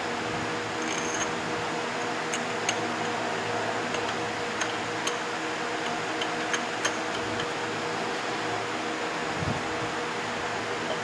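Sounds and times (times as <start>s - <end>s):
fan humming: 0.0s - 11.0s.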